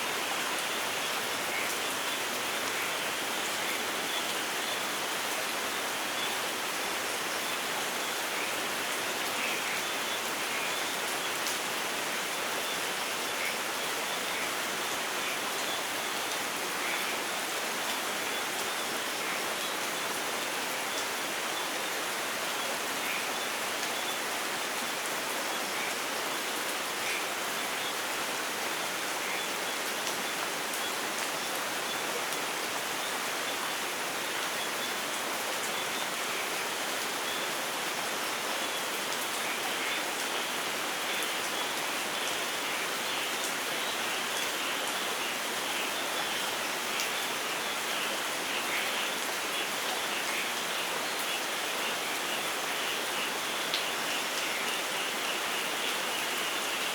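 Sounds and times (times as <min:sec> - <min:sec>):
light rain falling: 0:00.0 - 0:56.9.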